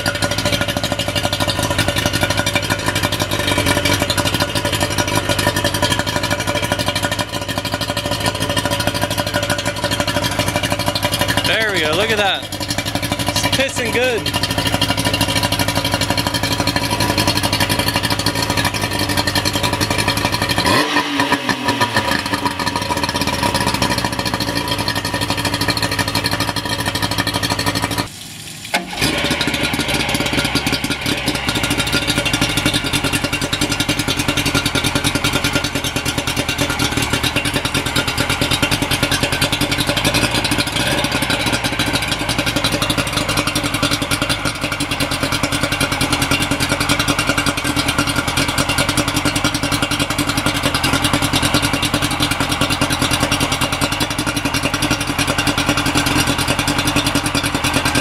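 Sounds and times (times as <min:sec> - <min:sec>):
outboard engine running: 0:00.0 - 0:58.0.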